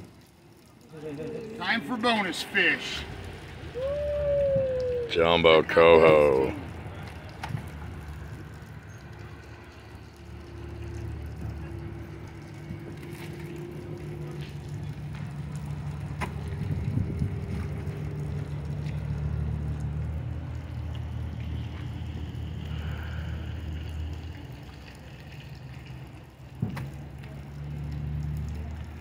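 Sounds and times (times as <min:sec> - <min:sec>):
engine idling: 0:01.6 - 0:25.0.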